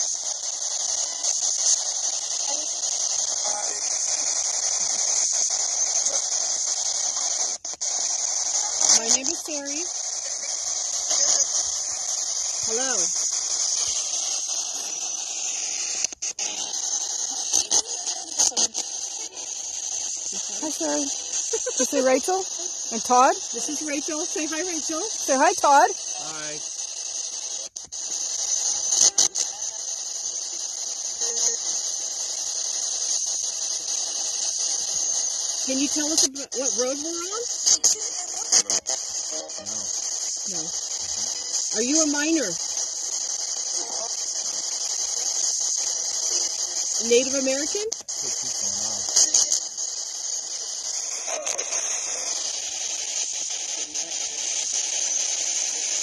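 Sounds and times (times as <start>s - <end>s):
loud radio crackles: 0.0s - 56.0s
radio static hiss: 0.0s - 56.0s.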